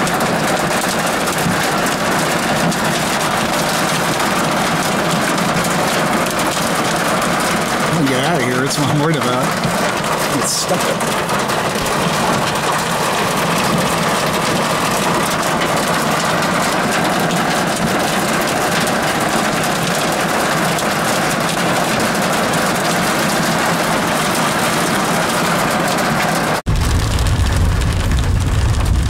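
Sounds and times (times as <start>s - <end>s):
rain on glass: 0.0s - 29.0s.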